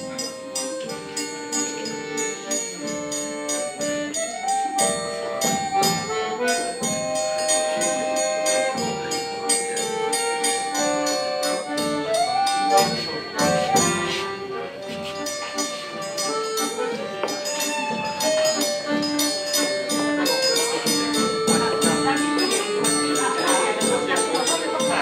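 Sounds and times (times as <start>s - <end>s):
instrumental music with steady beat: 0.0s - 25.0s.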